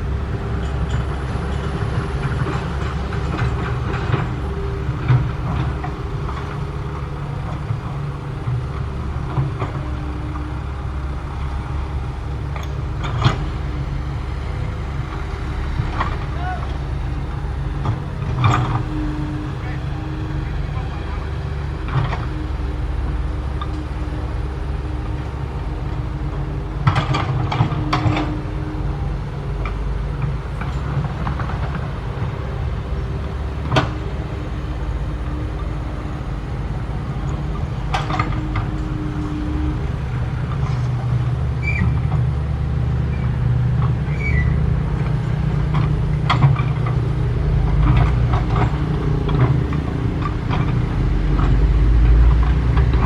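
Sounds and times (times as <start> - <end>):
excavator engine and hydraulics: 0.0 - 53.0.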